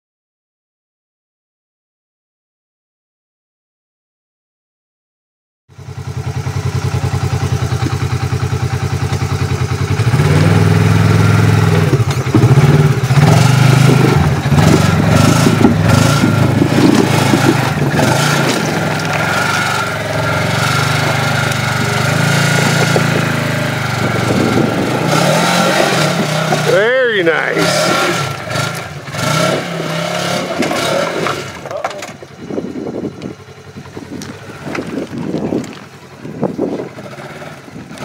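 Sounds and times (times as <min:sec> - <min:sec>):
off-road vehicle engine revving: 0:05.8 - 0:38.0.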